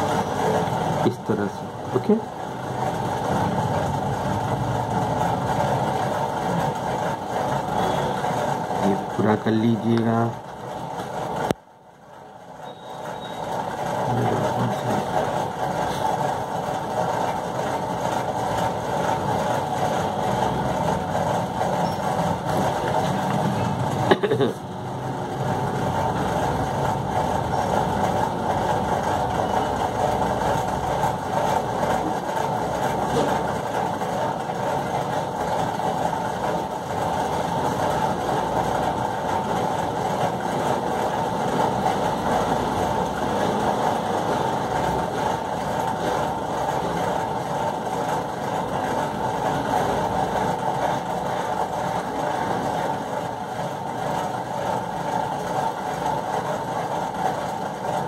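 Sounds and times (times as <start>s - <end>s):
steady mechanical running noise: 0.0s - 58.0s.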